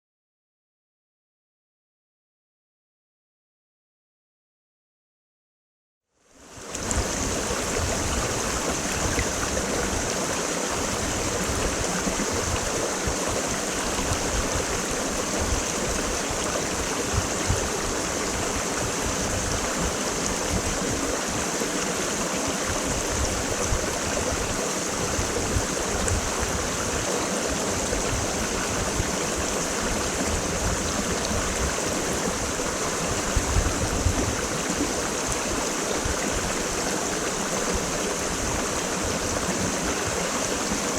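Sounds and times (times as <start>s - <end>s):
creek water rushing: 6.3s - 40.9s.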